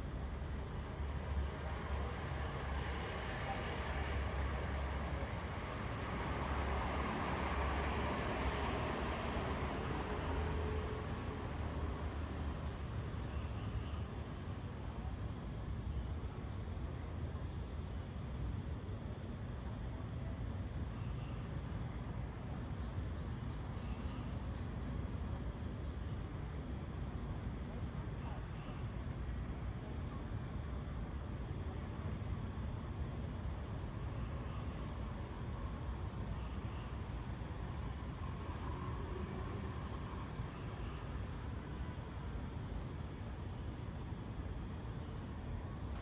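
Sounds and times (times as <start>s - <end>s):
low street hum: 0.0s - 46.0s.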